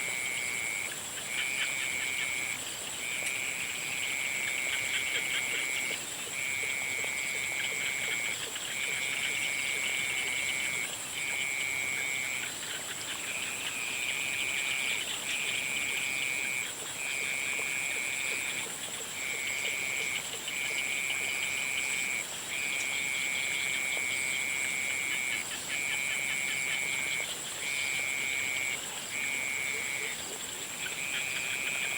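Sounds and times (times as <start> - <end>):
frogs trilling: 0.0 - 31.9.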